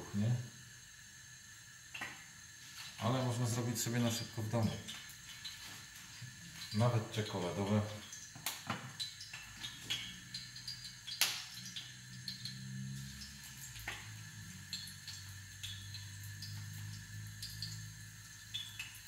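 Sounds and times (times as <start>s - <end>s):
batter sizzling in hot oil: 0.0s - 19.0s.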